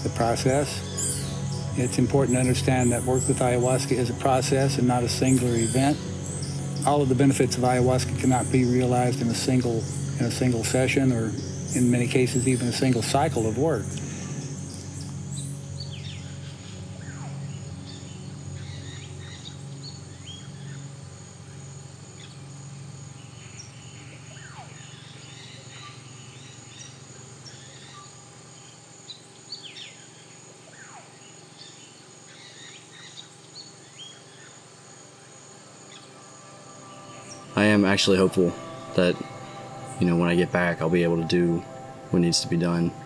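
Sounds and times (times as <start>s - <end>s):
low hum: 0.0s - 28.4s, 34.9s - 43.0s
birds calling: 0.0s - 43.0s
high insect drone: 0.0s - 43.0s.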